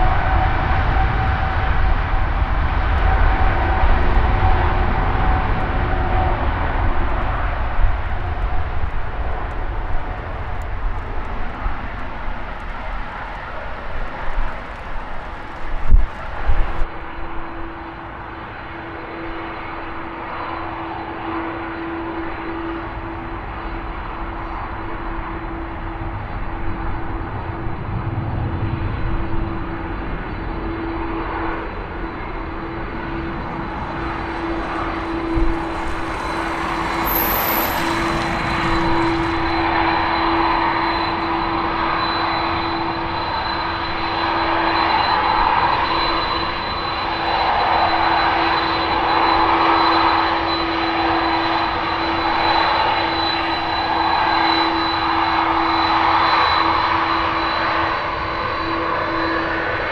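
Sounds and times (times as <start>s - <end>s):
airliner taxiing engine whine: 0.0s - 59.9s.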